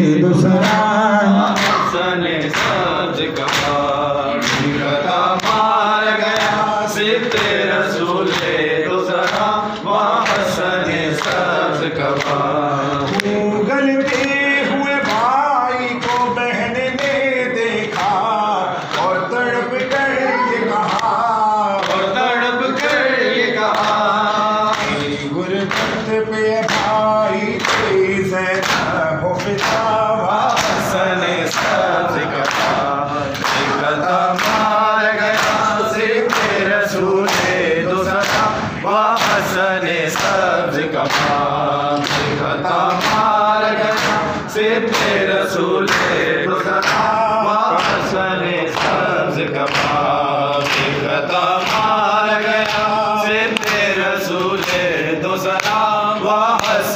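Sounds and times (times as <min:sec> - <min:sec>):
men chanting in unison: 0:00.0 - 0:56.9.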